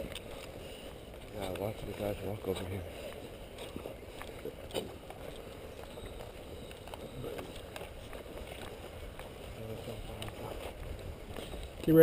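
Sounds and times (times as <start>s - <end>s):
footsteps through long grass: 0.0s - 12.0s.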